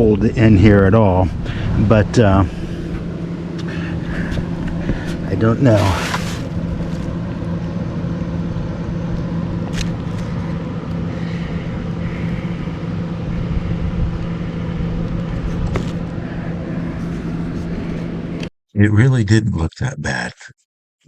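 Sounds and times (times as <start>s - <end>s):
motor humming: 1.3s - 18.4s.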